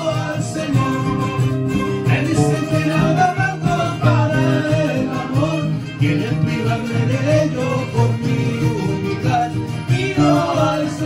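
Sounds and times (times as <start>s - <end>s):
cajon drum: 0.0s - 11.0s
man singing: 0.0s - 11.0s
strummed acoustic guitar: 0.0s - 11.0s.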